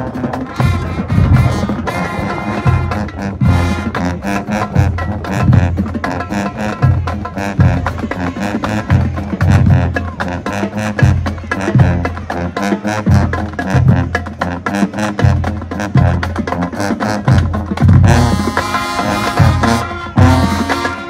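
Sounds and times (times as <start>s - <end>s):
higher horns: 0.0s - 21.0s
low brass notes: 0.0s - 21.0s
marching band playing: 0.0s - 21.0s.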